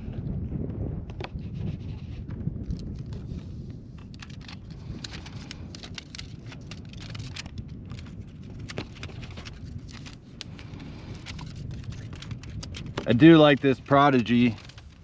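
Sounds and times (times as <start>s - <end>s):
wind rumbling on microphone: 0.0s - 15.0s
handling clicks and crackles: 2.5s - 15.0s.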